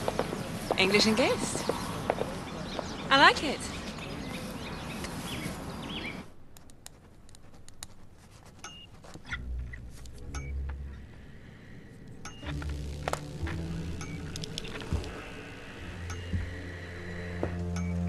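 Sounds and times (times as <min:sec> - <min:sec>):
birds chirping: 0:00.0 - 0:06.4, 0:08.6 - 0:18.0.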